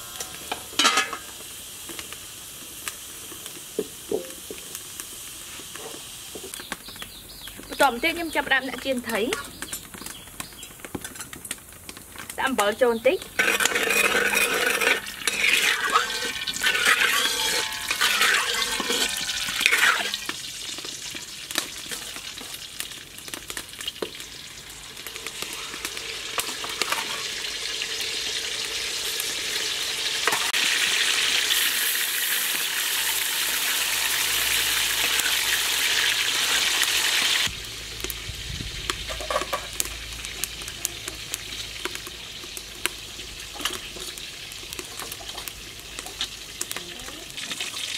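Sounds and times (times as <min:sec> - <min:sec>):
fish sizzling in hot oil: 0:00.0 - 0:47.9
wood fire crackling: 0:00.0 - 0:47.9.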